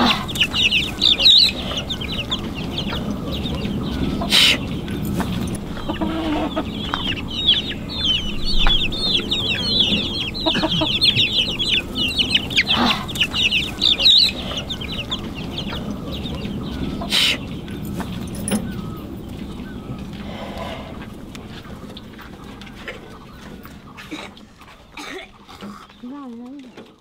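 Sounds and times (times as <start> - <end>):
harsh bird call: 0.0 - 26.2
chickens clucking: 0.0 - 27.0.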